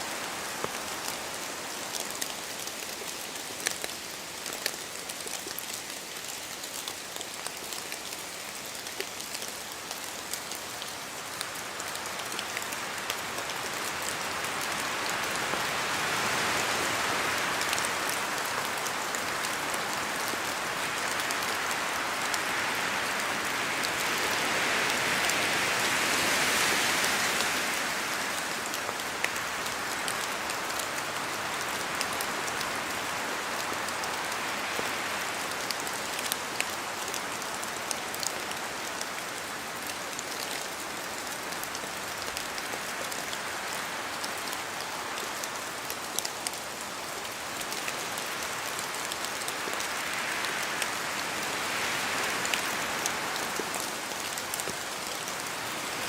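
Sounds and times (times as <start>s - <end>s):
steady rain falling: 0.0s - 56.0s
wind through branches: 0.0s - 56.0s.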